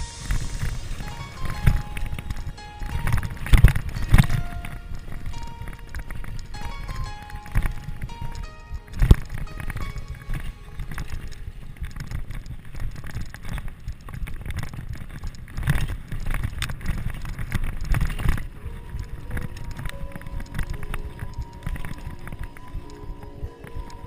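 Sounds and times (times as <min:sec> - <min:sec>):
bike rattling on rough trail: 0:01.5 - 0:22.8.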